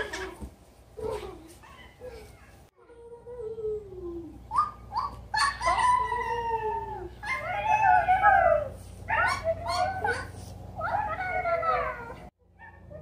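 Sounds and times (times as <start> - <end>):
children howling like dogs: 1.0 - 13.0.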